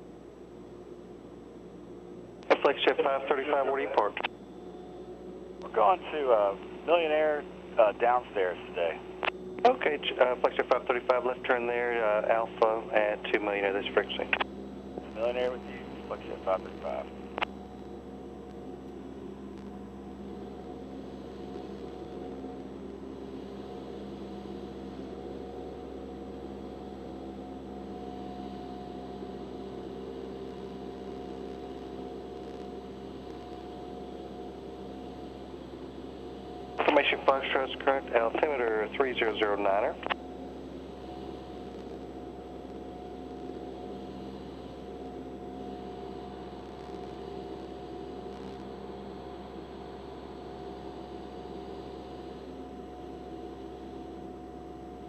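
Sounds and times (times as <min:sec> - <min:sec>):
airplane engine drone in cabin: 0:00.0 - 0:55.0.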